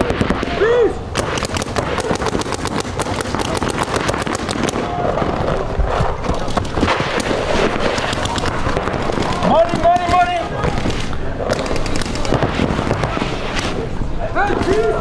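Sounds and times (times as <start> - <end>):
paintball markers firing: 0.0 - 13.8.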